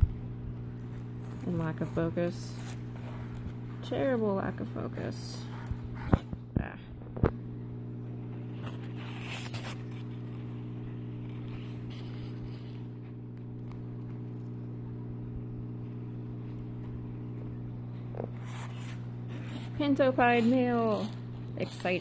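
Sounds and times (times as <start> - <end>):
low electrical hum: 0.0 - 22.0
cloth bag rustling: 0.4 - 6.2, 8.0 - 14.8, 15.7 - 22.0.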